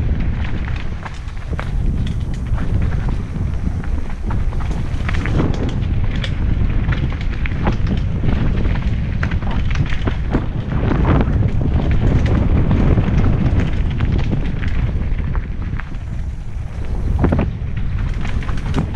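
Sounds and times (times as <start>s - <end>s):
bike rattling over bumps: 0.0s - 18.9s
wind buffeting microphone: 0.0s - 18.9s.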